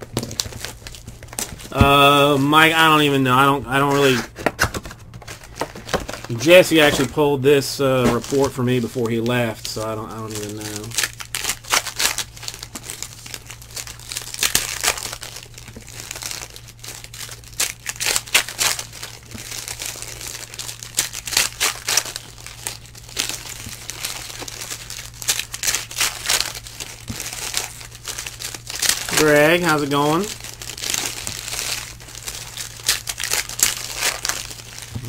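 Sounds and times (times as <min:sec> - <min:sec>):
foil wrappers crinkling and tearing: 0:00.0 - 0:35.0
steady low hum: 0:00.0 - 0:35.0.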